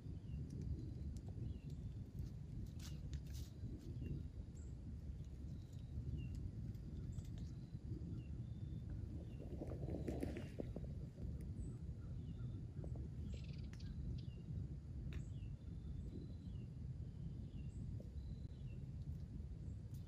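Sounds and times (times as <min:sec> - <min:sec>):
low wind rumble on microphone: 0:00.0 - 0:20.0
small birds chirping: 0:00.0 - 0:20.0.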